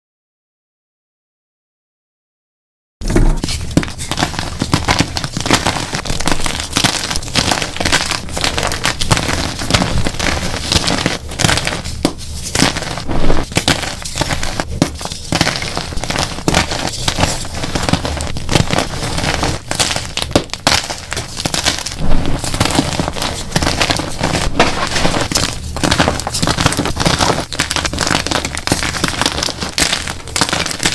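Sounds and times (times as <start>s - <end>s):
chalk crunching and crumbling: 3.1s - 30.9s.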